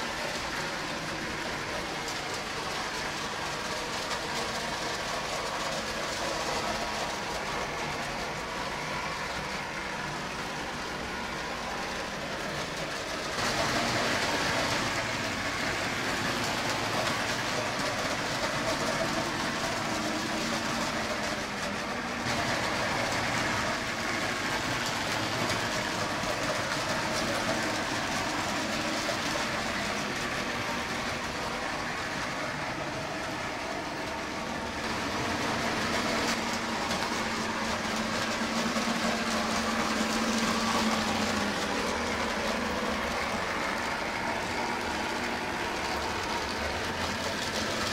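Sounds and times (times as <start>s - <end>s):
train wheels rattling over track joints: 0.0s - 47.9s.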